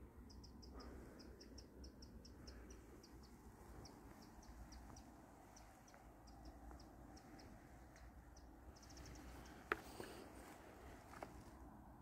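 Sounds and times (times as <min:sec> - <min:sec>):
faint low rumble: 0:00.0 - 0:12.0
small bird chirping: 0:00.1 - 0:10.2.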